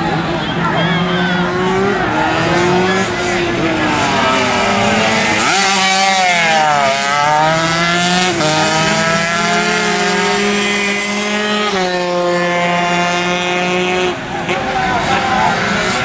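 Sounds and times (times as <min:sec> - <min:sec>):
racing motorcycle engines revving: 0:00.0 - 0:16.0.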